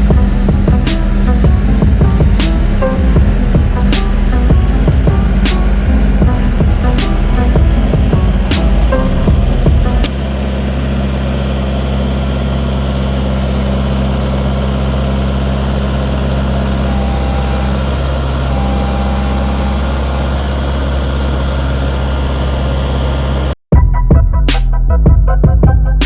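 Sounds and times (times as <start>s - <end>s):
tractor engine running: 0.0s - 23.6s.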